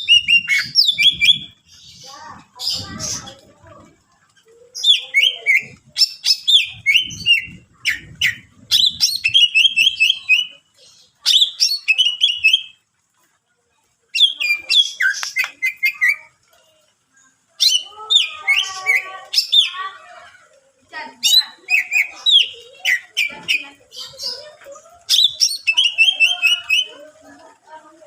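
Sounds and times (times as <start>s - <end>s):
bird warbling song: 0.0s - 12.8s, 14.1s - 16.4s, 17.5s - 27.8s.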